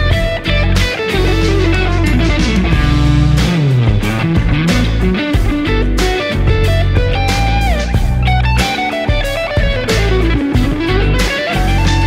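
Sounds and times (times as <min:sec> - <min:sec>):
overdriven electric guitar lead: 0:00.0 - 0:12.0
steady low guitar notes: 0:00.0 - 0:12.0.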